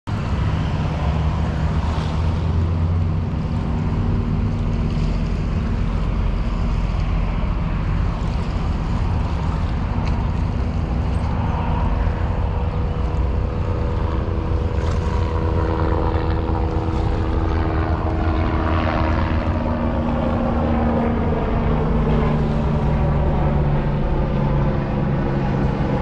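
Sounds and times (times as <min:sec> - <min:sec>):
low engine rumble: 0:00.0 - 0:26.0
water noise: 0:00.0 - 0:26.0
wind: 0:00.0 - 0:26.0.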